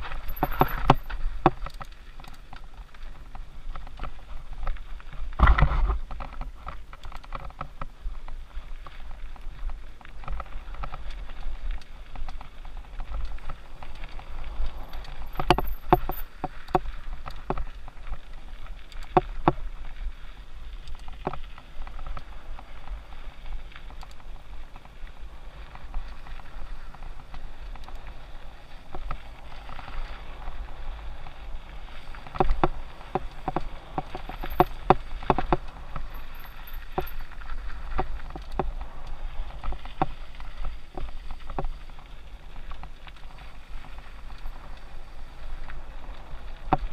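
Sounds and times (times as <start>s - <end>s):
bike knocking and clattering: 0.0s - 19.7s, 20.8s - 22.9s, 23.5s - 45.5s
bike tyres crunching on dirt: 0.0s - 46.9s
wind rumble: 0.0s - 46.9s.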